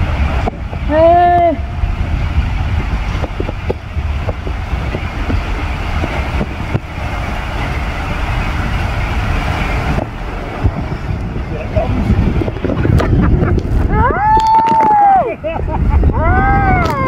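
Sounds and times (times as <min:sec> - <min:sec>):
water rushing down slide: 0:00.0 - 0:17.0.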